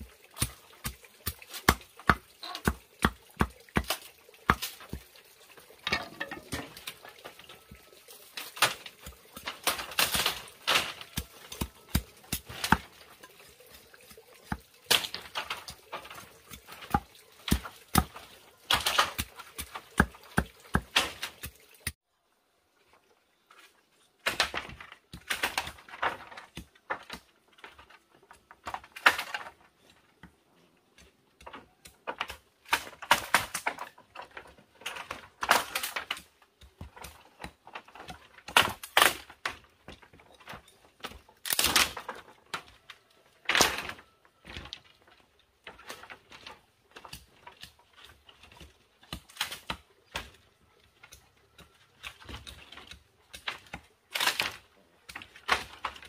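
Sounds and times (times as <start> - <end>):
bamboo strips clattering: 0.1 - 21.9, 22.9 - 56.0.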